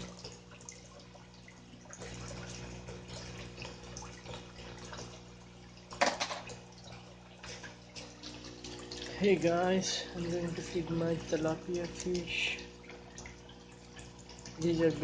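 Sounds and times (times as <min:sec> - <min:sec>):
low pump hum: 0:00.0 - 0:15.0.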